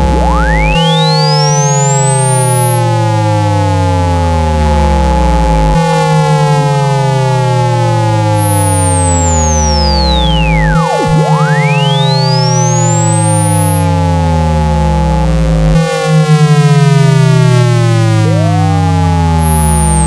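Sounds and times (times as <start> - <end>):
falling synthesized tones: 0.0 - 4.7, 6.5 - 15.8, 17.3 - 20.0
steady held tones: 0.0 - 4.8, 6.4 - 15.8, 17.2 - 20.0
sweeping pure tone: 0.0 - 5.6, 6.4 - 15.8, 17.0 - 20.0.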